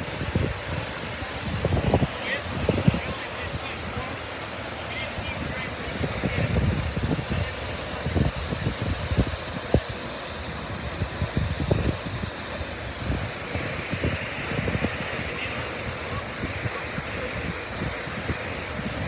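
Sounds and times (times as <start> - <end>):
water spray hissing from hydrant: 0.0 - 19.0
wind buffeting microphone: 0.0 - 19.0.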